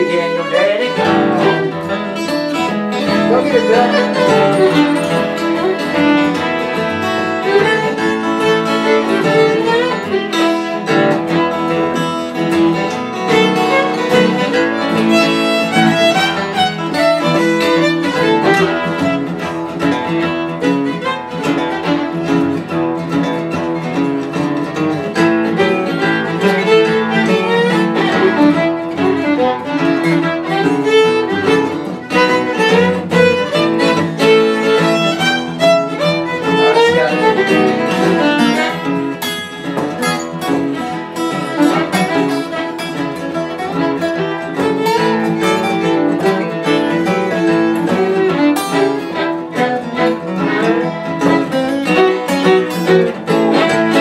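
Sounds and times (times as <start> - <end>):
acoustic guitars strumming: 0.0 - 54.0
bowled fiddle: 0.0 - 54.0.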